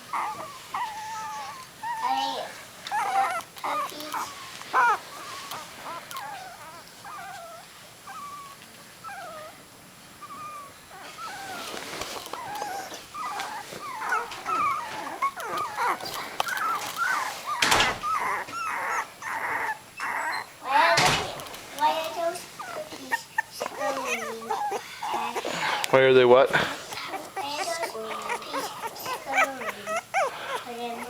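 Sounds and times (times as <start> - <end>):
puppies whimpering and squawking: 0.0 - 9.6, 10.2 - 31.0.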